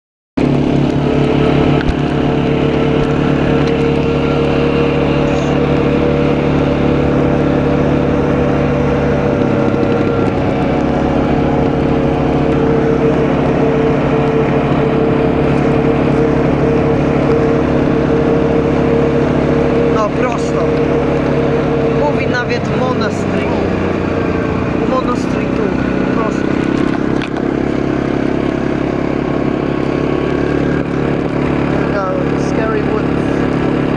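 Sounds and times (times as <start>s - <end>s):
quad bike engine running: 0.4s - 33.9s.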